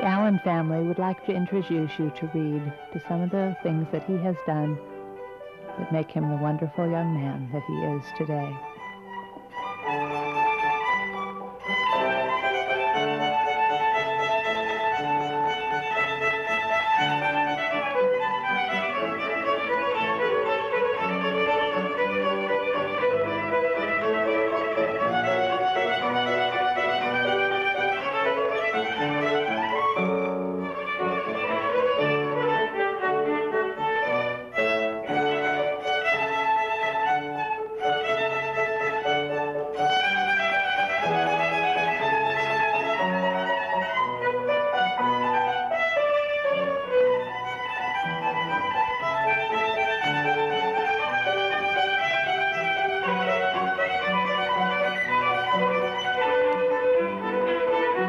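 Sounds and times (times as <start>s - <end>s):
violin melody: 0.0s - 58.0s.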